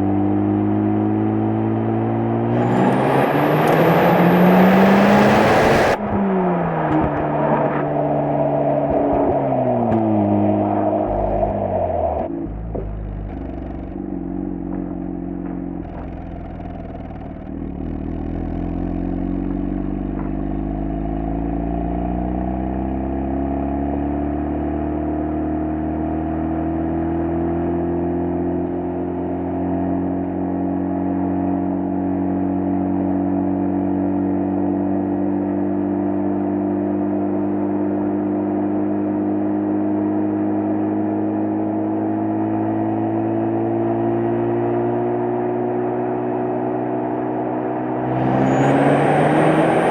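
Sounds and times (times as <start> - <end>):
rotary engine exhaust accelerating: 0.0 - 35.2, 36.5 - 49.9.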